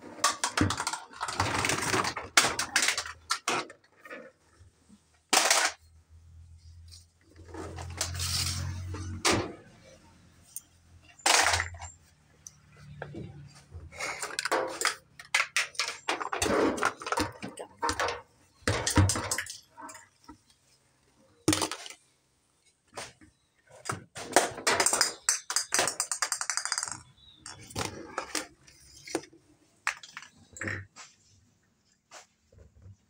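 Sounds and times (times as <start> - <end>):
plastic toys clattering: 0.0 - 20.6, 21.3 - 22.1, 22.7 - 31.1.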